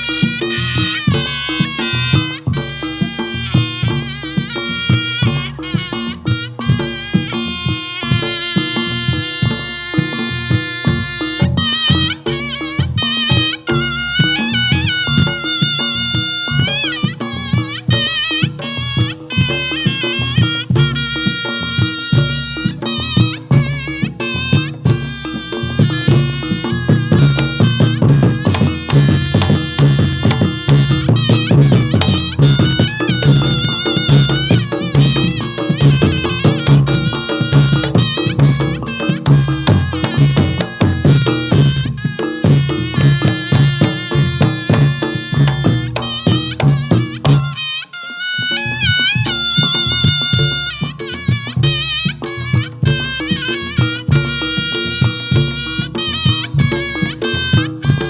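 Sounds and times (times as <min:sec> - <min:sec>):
hand drumming and percussion: 0:00.0 - 0:58.0
shawm playing shrill melody: 0:00.0 - 0:58.0.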